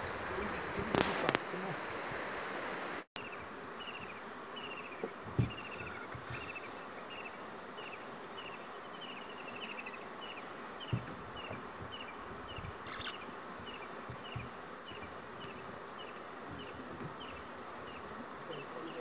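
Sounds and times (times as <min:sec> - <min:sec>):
insect buzz: 0:03.2 - 0:19.0.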